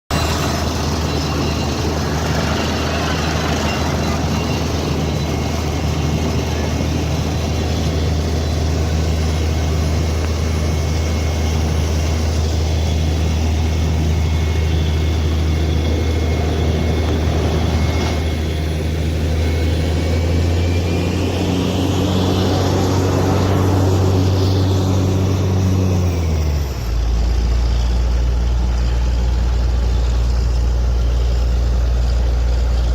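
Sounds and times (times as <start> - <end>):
drilling rig engine drone: 0.1 - 32.9
high whine: 0.1 - 32.9.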